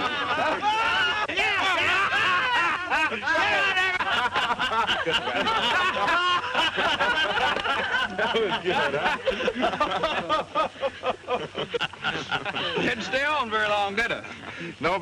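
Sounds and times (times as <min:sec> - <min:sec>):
men and women laughing: 0:00.0 - 0:14.8.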